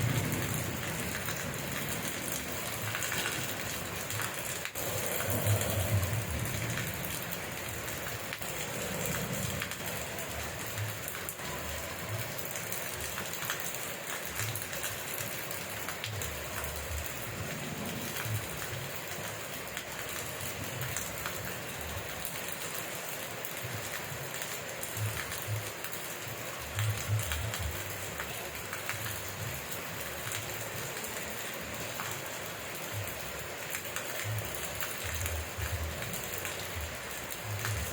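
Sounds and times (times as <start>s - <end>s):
rain drops pattering: 0.0s - 37.9s.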